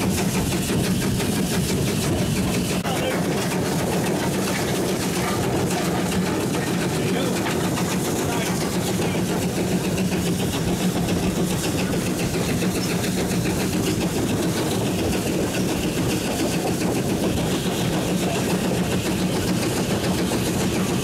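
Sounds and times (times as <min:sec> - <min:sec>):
steam locomotive exhaust beat: 0:00.0 - 0:21.0
train running on rails: 0:00.0 - 0:21.0.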